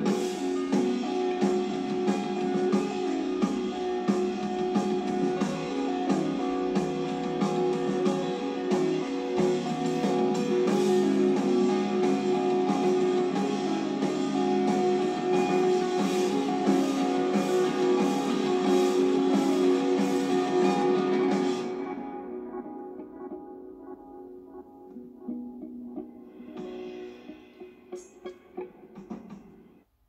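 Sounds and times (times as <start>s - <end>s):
rock music from vinyl record: 0.0s - 29.9s.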